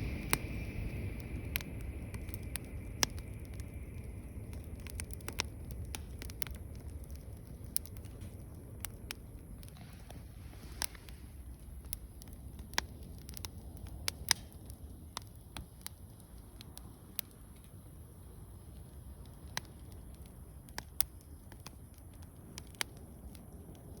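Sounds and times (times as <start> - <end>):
campfire crackling and popping: 0.0 - 24.0
low rumble of burning fire: 0.0 - 24.0.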